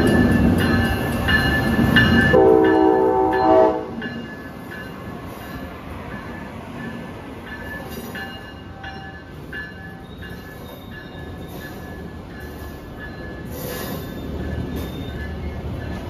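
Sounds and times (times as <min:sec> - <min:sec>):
train rumbling by: 0:00.0 - 0:16.0.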